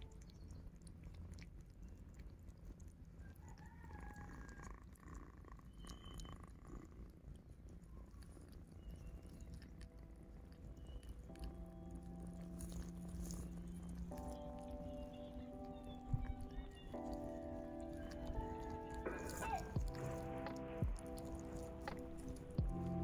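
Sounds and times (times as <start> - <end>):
kittens lapping food: 0.0 - 23.0
low steady purr: 0.0 - 23.0.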